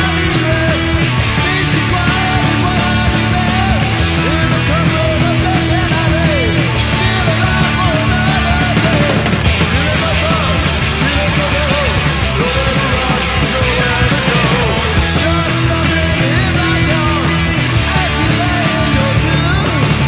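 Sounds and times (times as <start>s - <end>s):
speed metal with distorted guitars: 0.0s - 20.0s.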